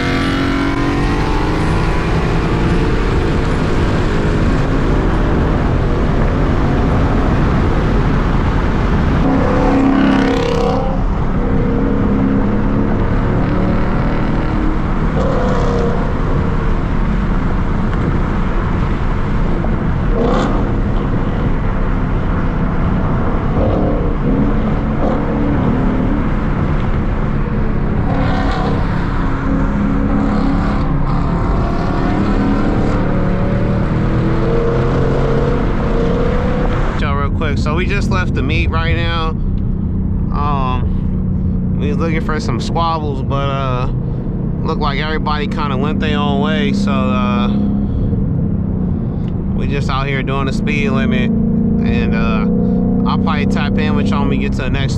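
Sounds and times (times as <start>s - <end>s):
car engine: 0.0s - 54.9s
road noise inside car: 0.0s - 54.9s.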